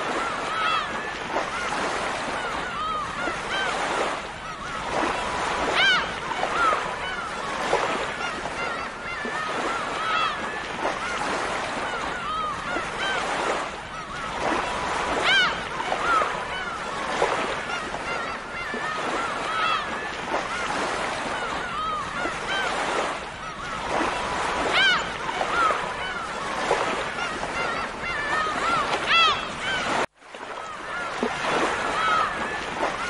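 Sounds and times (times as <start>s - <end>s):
gulls calling: 0.0s - 33.0s
surf washing: 0.0s - 33.0s.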